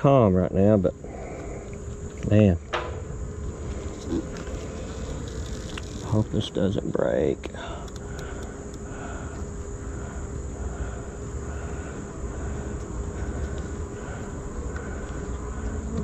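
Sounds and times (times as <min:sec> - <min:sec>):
bees humming: 0:00.0 - 0:16.0.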